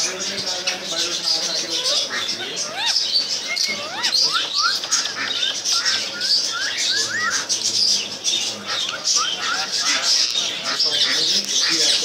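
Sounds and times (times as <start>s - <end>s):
birds twittering: 0.0s - 12.0s
birds whistling: 0.0s - 12.0s.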